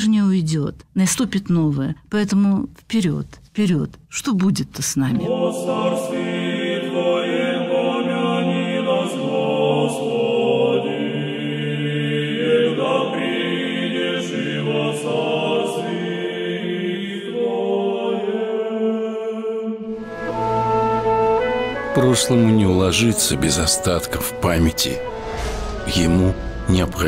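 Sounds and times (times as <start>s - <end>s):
choir singing sustained chords: 5.2s - 27.0s.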